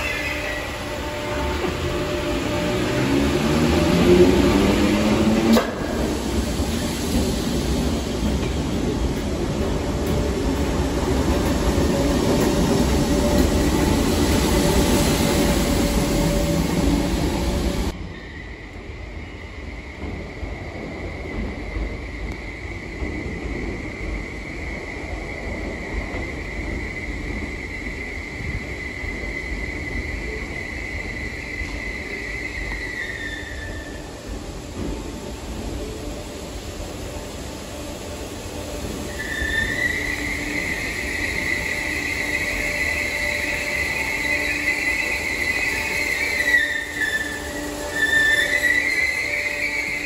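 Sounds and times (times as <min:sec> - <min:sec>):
train rumbling past: 0:00.0 - 0:50.0
train wheel squeal: 0:00.0 - 0:50.0.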